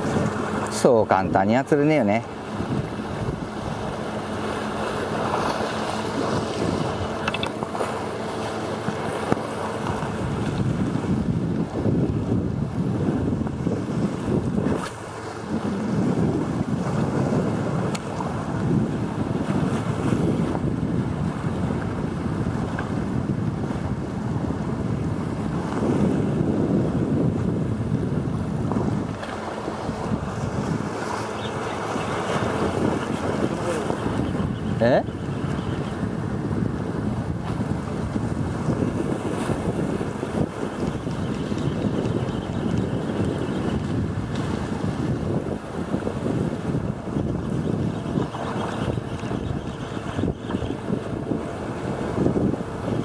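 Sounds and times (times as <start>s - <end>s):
sea waves washing on concrete: 0.0s - 53.0s
wind buffeting microphone: 0.0s - 53.0s.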